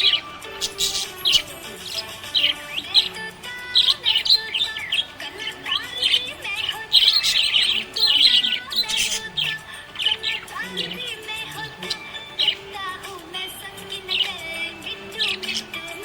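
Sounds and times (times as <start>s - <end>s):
budgerigar chirping and warbling: 0.0s - 16.0s
faint background music: 0.0s - 16.0s.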